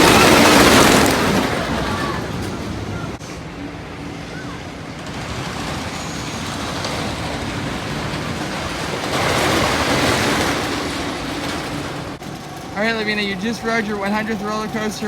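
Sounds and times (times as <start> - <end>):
roller coaster rushing and rumbling: 0.0 - 15.0.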